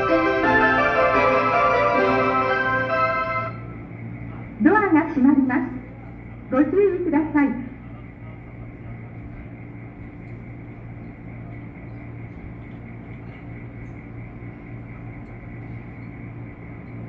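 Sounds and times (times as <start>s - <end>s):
electric train machinery humming: 0.0s - 17.0s.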